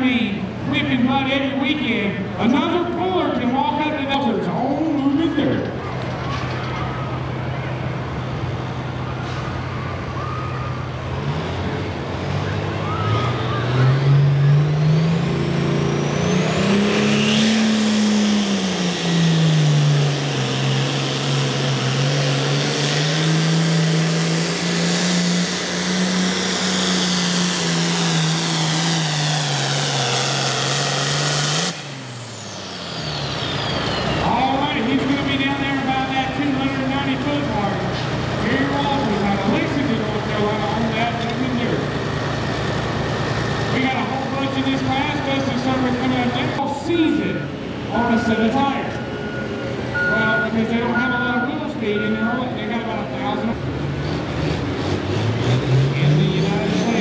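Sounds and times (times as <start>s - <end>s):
diesel tractor engine revving: 0.0s - 57.0s.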